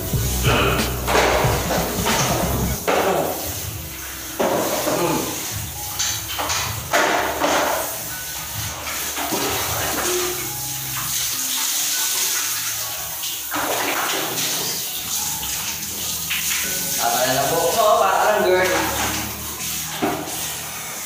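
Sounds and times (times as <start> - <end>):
water pouring and splashing: 0.0 - 21.0.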